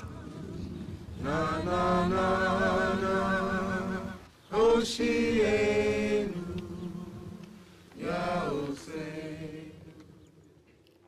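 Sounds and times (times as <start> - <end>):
voices singing slow chant: 0.0 - 10.8.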